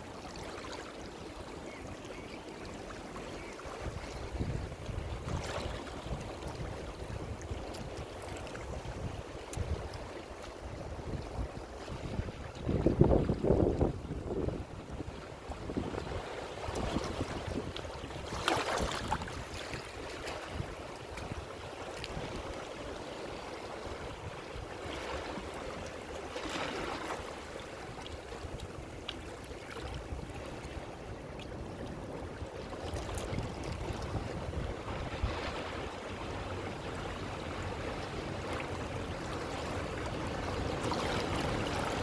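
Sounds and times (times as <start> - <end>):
ocean waves on shore: 0.0 - 42.0.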